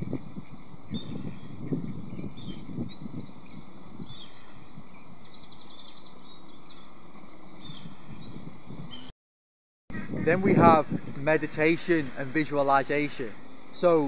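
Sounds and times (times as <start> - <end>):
songbirds chirping and singing: 0.0 - 9.1, 9.9 - 14.0.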